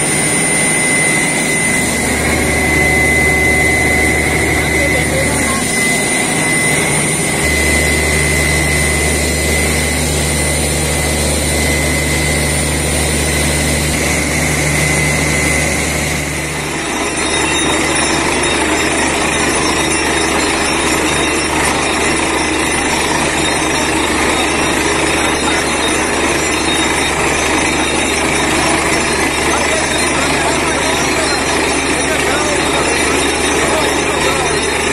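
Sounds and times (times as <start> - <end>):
air compressor running: 0.0 - 34.9
drilling rig running: 0.0 - 34.9.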